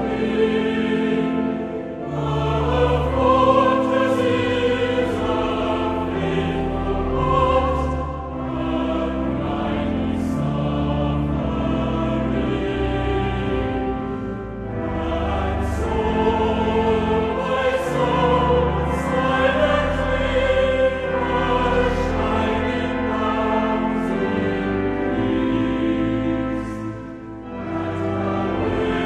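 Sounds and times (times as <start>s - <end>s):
choir singing held notes: 0.0s - 29.0s.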